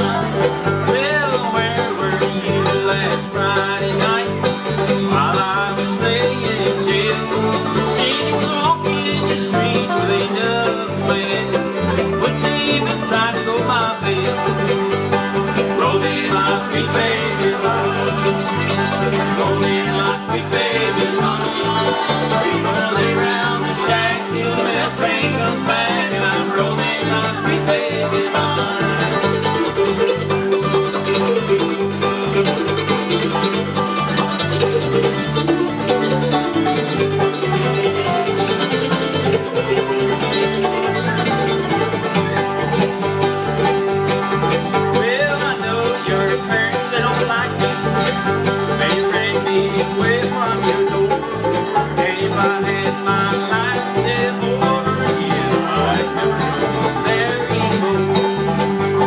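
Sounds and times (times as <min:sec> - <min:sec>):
acoustic guitar: 0:00.0 - 0:59.0
banjo picking: 0:00.0 - 0:59.0
mandolin picking: 0:00.0 - 0:59.0
plucked acoustic bass guitar: 0:00.0 - 0:59.0.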